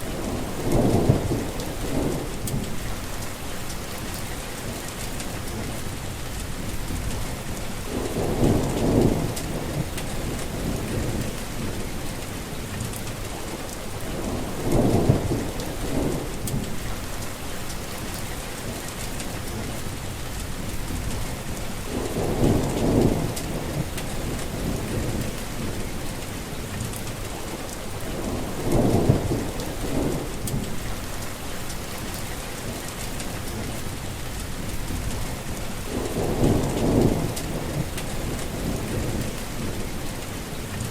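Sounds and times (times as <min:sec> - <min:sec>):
heavy rain falling: 0:00.0 - 0:40.9
low rumbles of thunder: 0:00.0 - 0:40.9.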